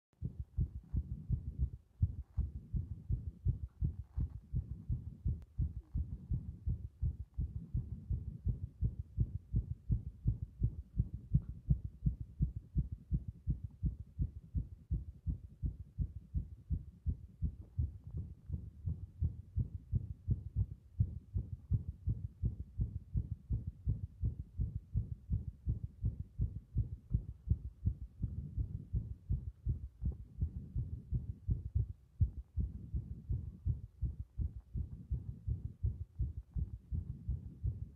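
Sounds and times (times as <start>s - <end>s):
heartbeat through stethoscope: 0.2s - 37.9s.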